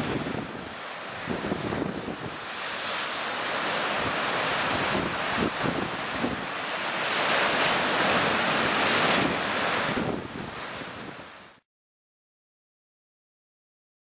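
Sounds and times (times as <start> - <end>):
surf breaking on rocky shore: 0.0 - 11.6.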